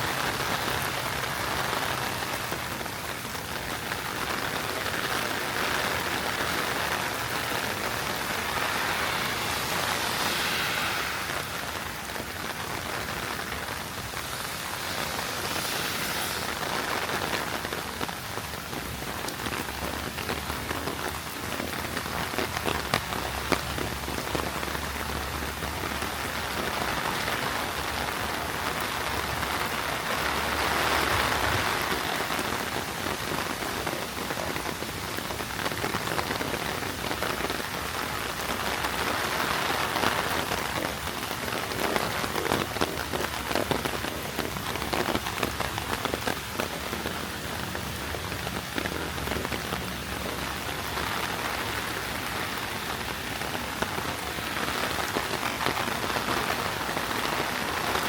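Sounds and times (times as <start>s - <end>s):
heavy rain on hard surfaces: 0.0s - 58.0s.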